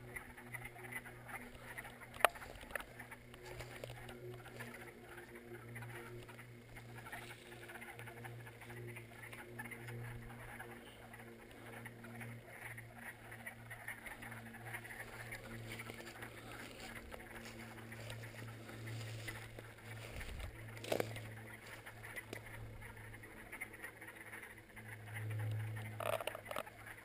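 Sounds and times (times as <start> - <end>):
chorus of frogs calling: 0.0 - 27.0.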